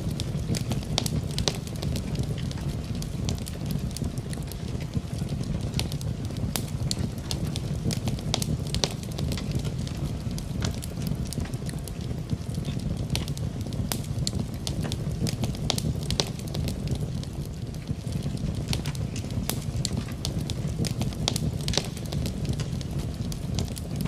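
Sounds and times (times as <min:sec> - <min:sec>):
low rushing fire sound: 0:00.0 - 0:24.0
wood fire crackling and popping: 0:00.0 - 0:24.0.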